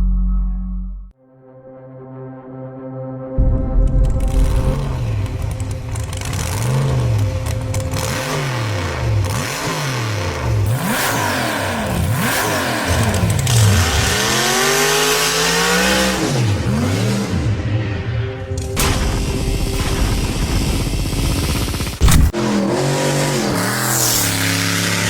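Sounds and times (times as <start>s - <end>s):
car engine revving: 4.0s - 25.0s.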